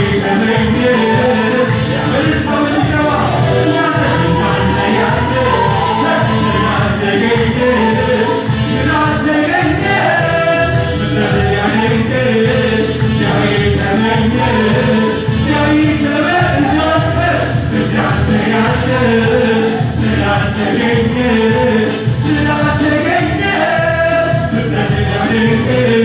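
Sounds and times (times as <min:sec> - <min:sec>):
choir singing: 0:00.0 - 0:26.0
instrumental accompaniment with beat: 0:00.0 - 0:26.0.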